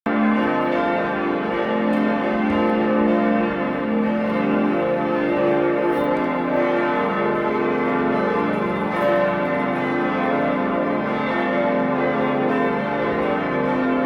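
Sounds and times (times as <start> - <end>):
church bells pealing: 0.1 - 14.0.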